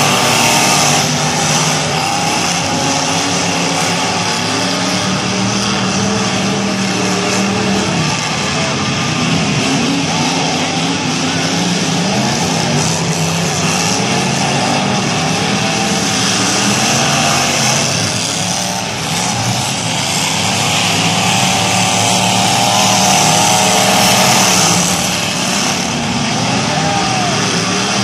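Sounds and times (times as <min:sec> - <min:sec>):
race car engines revving: 0:00.0 - 0:28.0.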